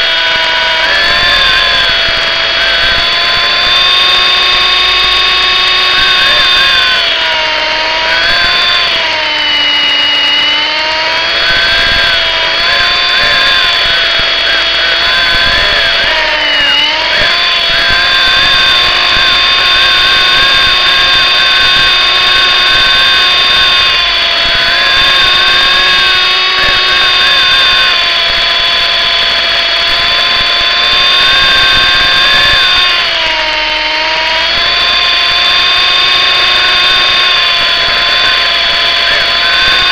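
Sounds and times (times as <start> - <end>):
toy helicopter rotor whine: 0.0 - 39.9.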